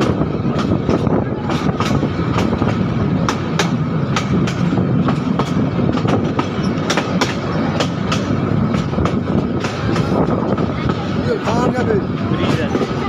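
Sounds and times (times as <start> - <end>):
train rumbling on track: 0.0 - 13.0
wheels clicking over rail joints: 0.0 - 13.0.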